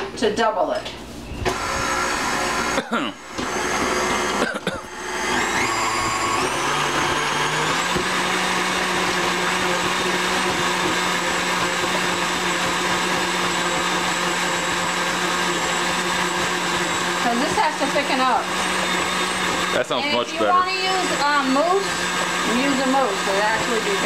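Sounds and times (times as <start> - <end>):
stand mixer motor whine: 1.5 - 24.0.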